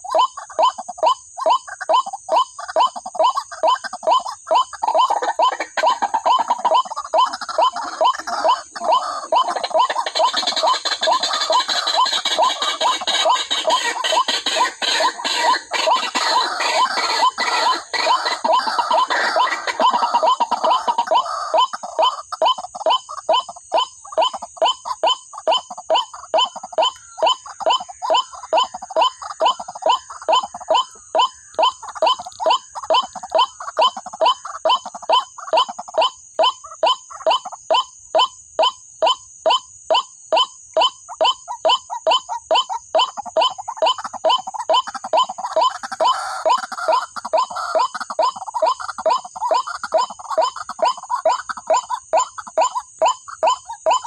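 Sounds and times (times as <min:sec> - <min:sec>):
waterhen calls: 0:00.0 - 0:54.0.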